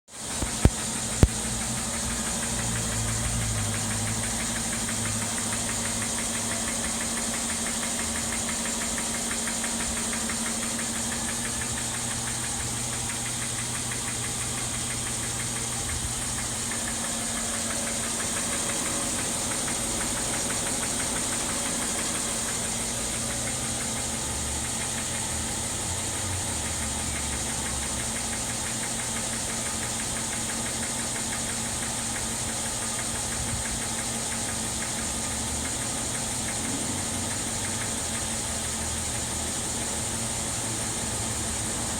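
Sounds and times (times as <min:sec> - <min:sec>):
rapid repetitive engine knock: 0:00.1 - 0:41.9
car engine idling: 0:00.2 - 0:41.9.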